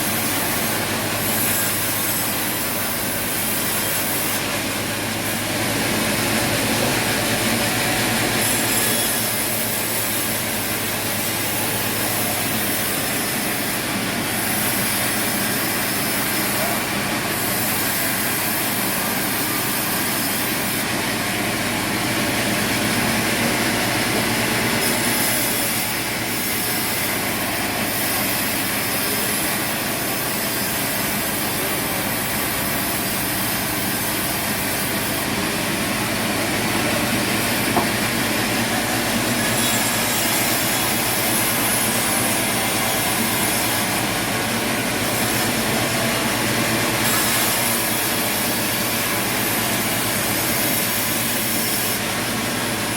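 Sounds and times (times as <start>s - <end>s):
sawmill machine noise: 0.0s - 52.9s.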